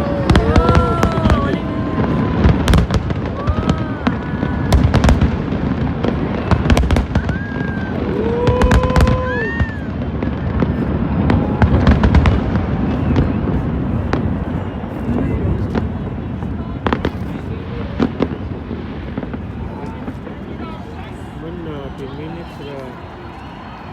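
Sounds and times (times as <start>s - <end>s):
firework bangs and crackles: 0.0s - 23.9s.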